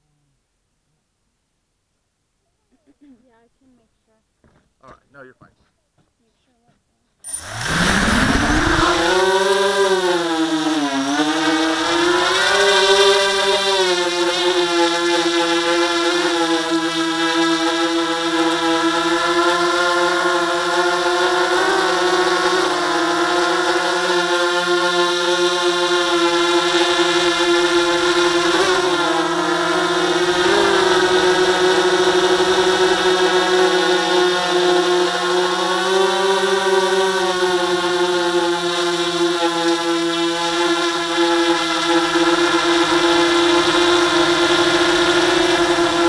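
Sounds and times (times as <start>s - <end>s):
drone propellers humming: 7.3s - 46.0s.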